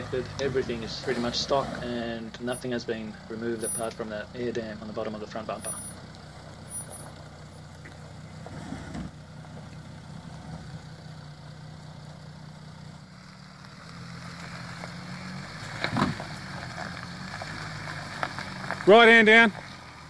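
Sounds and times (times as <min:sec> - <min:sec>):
diesel engine running at low revs: 0:00.0 - 0:20.0.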